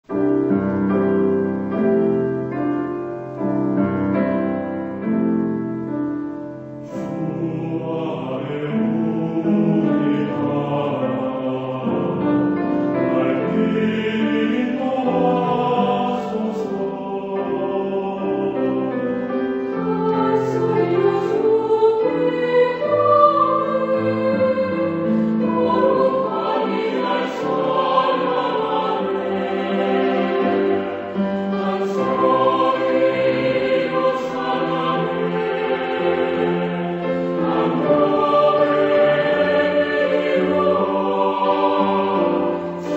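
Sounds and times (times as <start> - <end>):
choir singing: 0.0 - 42.9
piano chords: 0.0 - 42.9.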